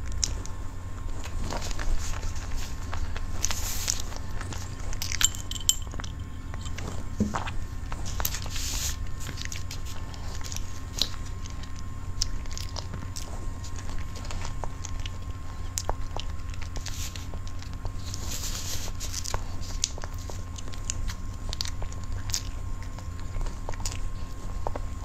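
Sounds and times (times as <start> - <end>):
low microphone hum: 0.0 - 25.0
soft chewing: 0.0 - 25.0.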